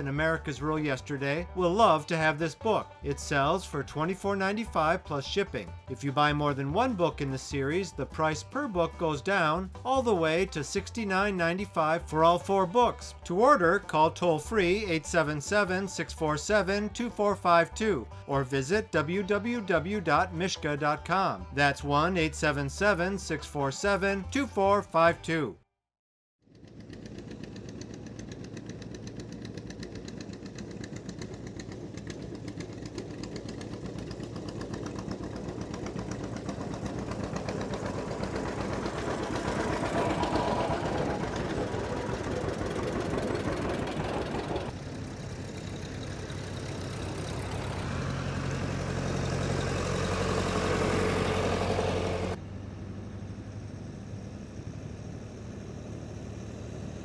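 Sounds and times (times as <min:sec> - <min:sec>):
tractor engines driving past: 0:00.0 - 0:25.4, 0:26.5 - 0:57.0.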